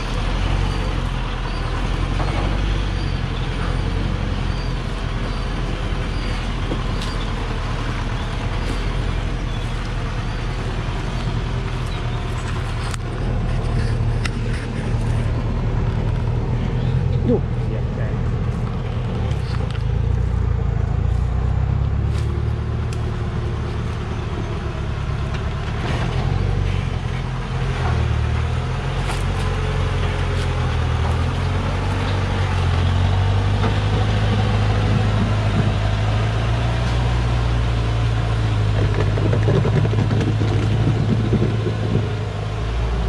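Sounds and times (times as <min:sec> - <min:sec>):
diesel truck engine under load: 0:00.0 - 0:43.0.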